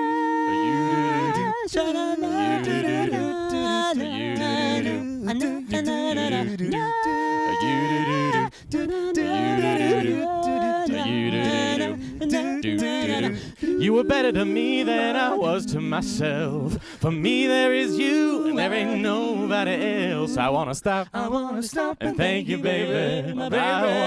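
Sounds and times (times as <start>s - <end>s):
male vocal trio singing a cappella: 0.0s - 24.0s.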